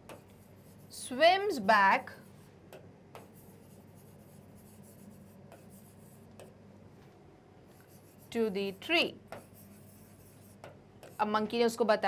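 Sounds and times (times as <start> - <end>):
marker rubbing on whiteboard: 0.0 - 6.6, 7.7 - 11.5.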